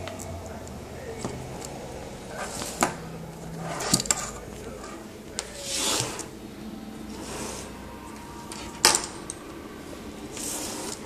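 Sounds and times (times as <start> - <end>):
wire loom rustling: 1.1 - 6.4, 7.0 - 11.0.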